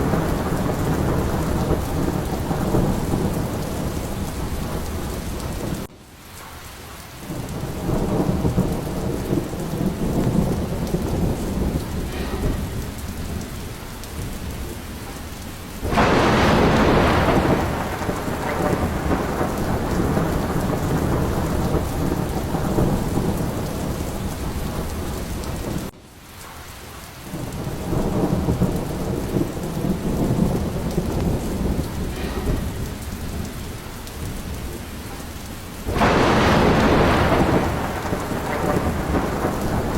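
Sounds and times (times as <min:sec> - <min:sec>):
loud thunderclap: 0:00.0 - 0:05.9, 0:07.2 - 0:26.0, 0:27.3 - 0:39.9
rolling thunder: 0:00.0 - 0:05.9, 0:06.7 - 0:26.0, 0:27.2 - 0:39.9
steady rain: 0:00.0 - 0:39.9.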